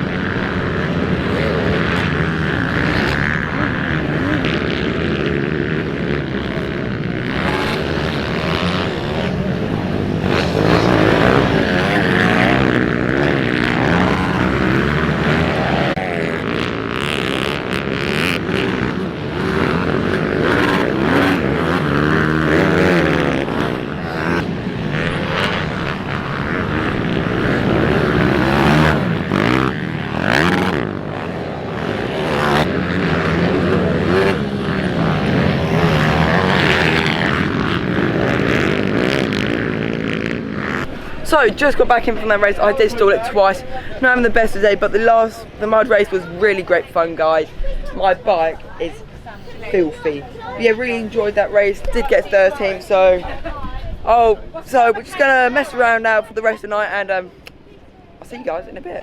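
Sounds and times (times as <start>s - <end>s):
pit bike engines revving: 0.0s - 59.0s.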